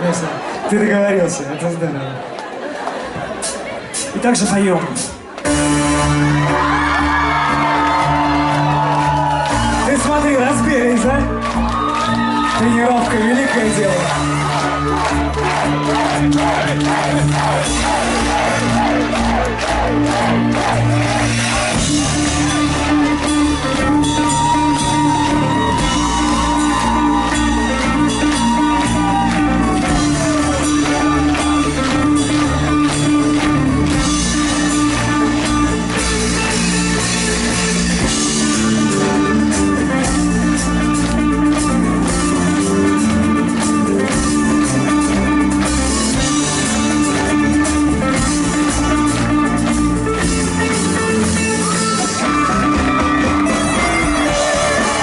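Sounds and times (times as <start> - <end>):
bass and drums: 3.2 - 55.0.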